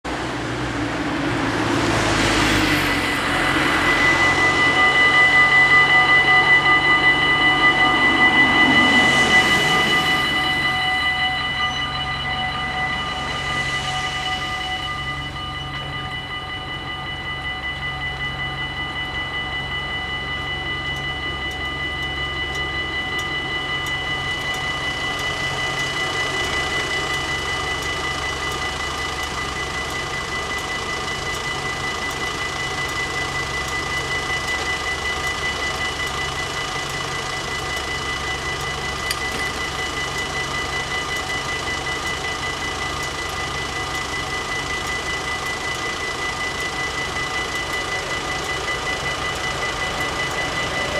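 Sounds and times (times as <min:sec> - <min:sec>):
level crossing warning bells: 0:00.0 - 0:50.9
train rumble: 0:00.0 - 0:50.9.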